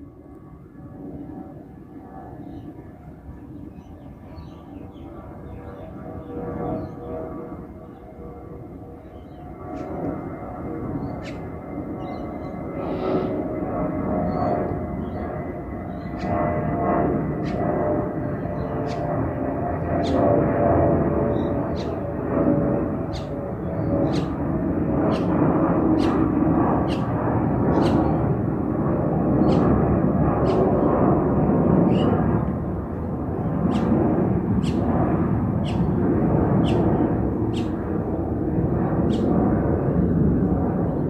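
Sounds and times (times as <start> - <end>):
hum of steady tones: 0.0 - 41.0
jet engine noise: 0.0 - 41.0.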